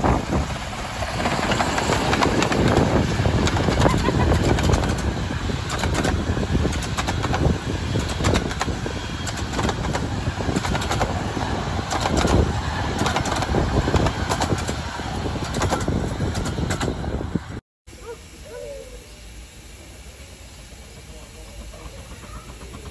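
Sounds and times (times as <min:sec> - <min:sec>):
heavy continuous rumble: 0:00.0 - 0:22.9
steam engine exhaust beating: 0:00.0 - 0:22.9.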